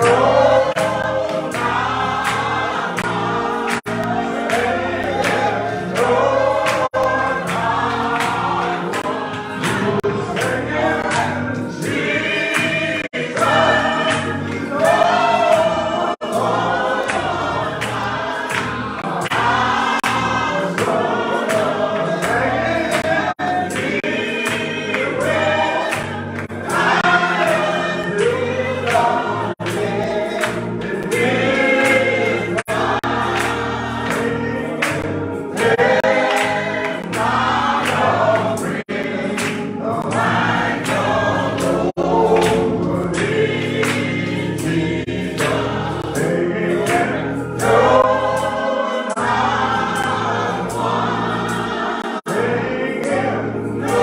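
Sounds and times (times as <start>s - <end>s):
group gospel singing: 0.0s - 54.0s.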